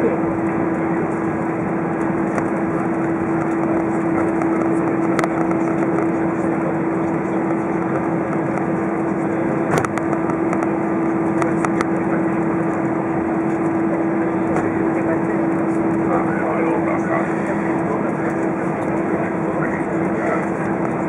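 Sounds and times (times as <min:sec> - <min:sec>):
aircraft engines idling drone: 0:00.0 - 0:21.0.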